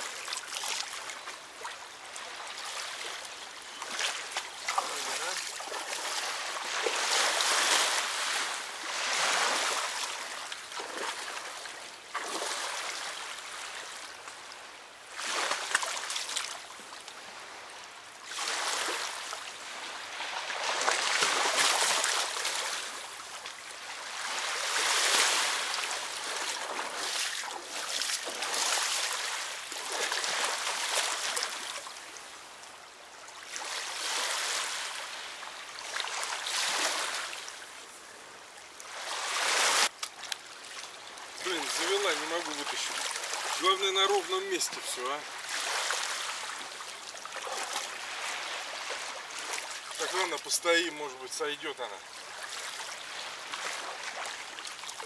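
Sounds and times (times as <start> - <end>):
waves lapping against shore: 0.0 - 55.0.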